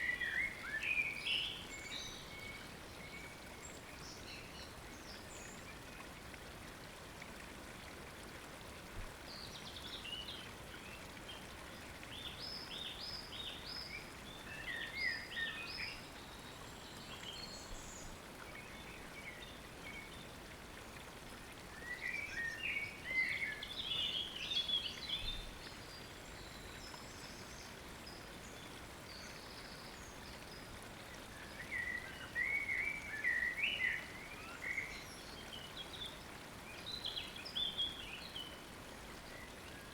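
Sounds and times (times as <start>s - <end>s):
steady hiss of water: 0.0s - 39.9s.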